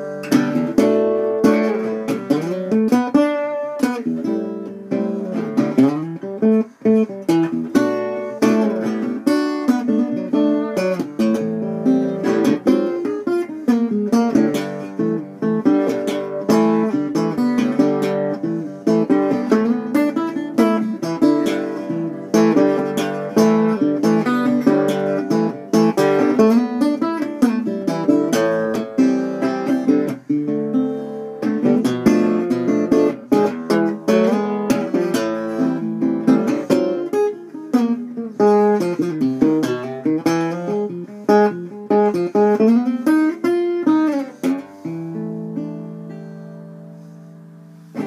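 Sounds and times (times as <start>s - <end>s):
fingerstyle resonator guitar: 0.0s - 48.0s.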